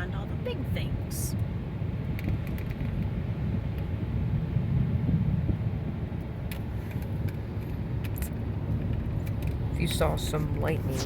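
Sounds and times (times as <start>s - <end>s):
car driving on road: 0.0s - 11.0s.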